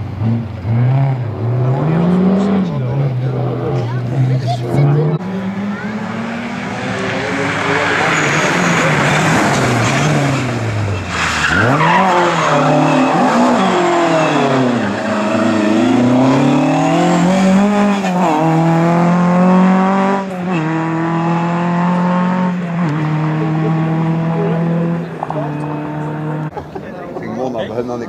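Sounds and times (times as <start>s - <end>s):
rally car engine revving: 0.0s - 26.8s.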